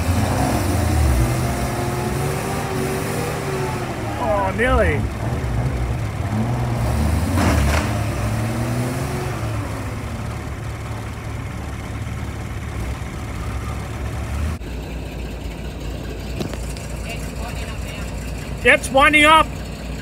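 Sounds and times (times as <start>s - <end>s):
truck engine running under load: 0.0s - 20.0s.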